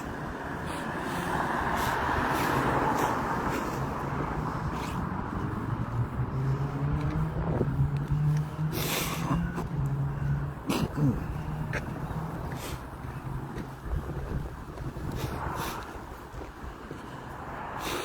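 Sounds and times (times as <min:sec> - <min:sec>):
low engine hum: 0:00.0 - 0:18.0
road noise of passing vehicle: 0:00.0 - 0:18.0.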